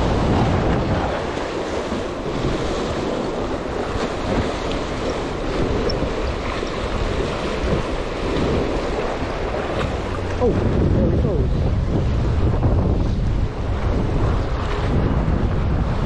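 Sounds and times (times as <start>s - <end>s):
ocean waves breaking on rocks: 0.0s - 16.0s
wind buffeting microphone: 0.0s - 16.0s.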